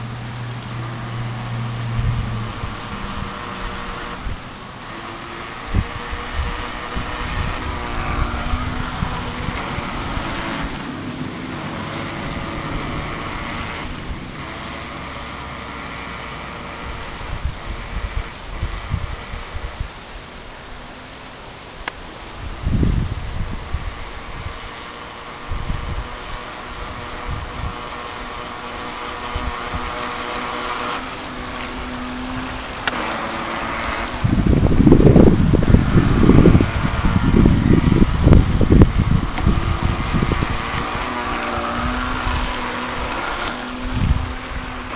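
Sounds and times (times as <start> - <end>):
wind on microphone: 0.0 - 20.8, 22.2 - 44.9
small electric motor whining: 0.0 - 44.9.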